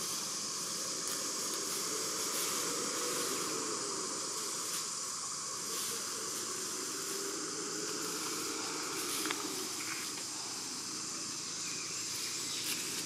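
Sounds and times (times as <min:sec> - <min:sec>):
faint wavering hum: 0:00.0 - 0:13.0
high-pitched insect drone: 0:00.0 - 0:13.0.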